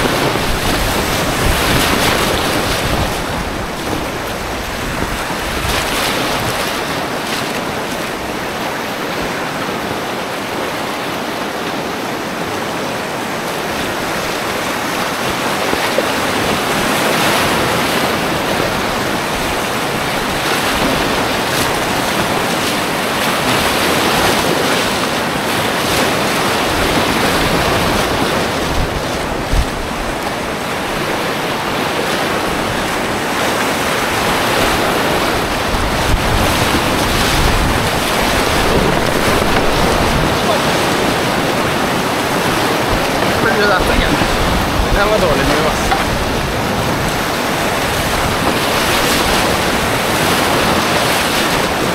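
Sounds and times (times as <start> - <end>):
waves splashing over boat: 0.0 - 51.9
whitewater rapids rushing: 0.0 - 51.9.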